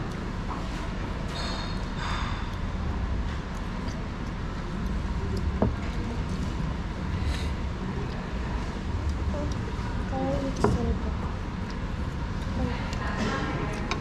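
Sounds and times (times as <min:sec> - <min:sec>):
dining room background rumble: 0:00.0 - 0:14.0.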